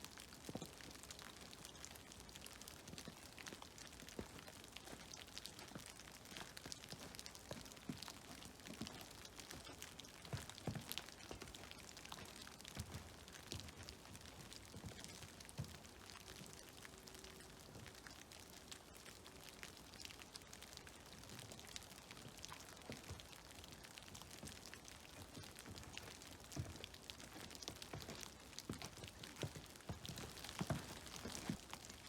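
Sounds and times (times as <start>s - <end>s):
snowmelt dripping: 0.0s - 32.0s.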